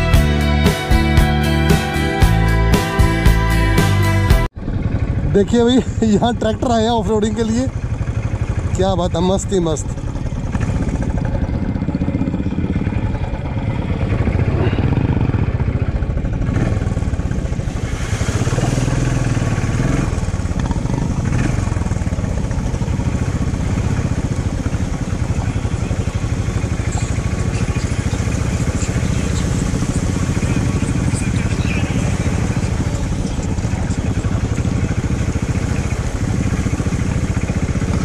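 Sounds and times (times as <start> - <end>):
motorcycle engine rumbling: 0.0 - 38.0.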